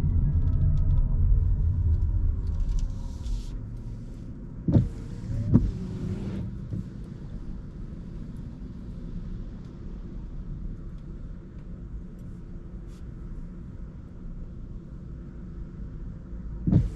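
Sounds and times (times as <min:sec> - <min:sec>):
car cabin road noise: 0:00.0 - 0:16.9.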